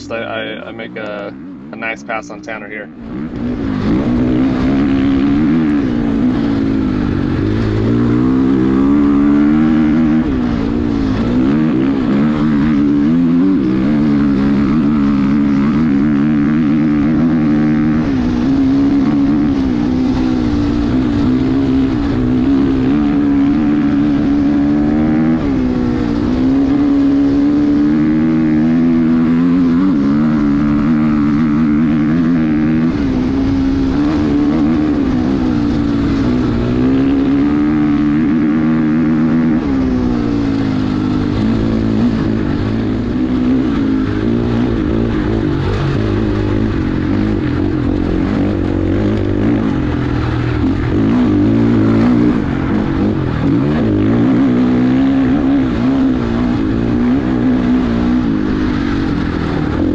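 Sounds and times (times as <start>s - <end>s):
motorcycle engine at high revs: 0.0s - 59.9s.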